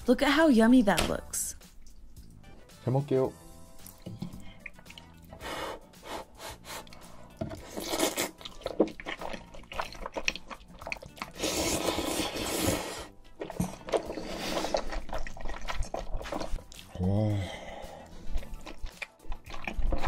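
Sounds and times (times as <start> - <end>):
soft background music: 0.0 - 20.0
slurping and chewing noodles: 3.8 - 20.0.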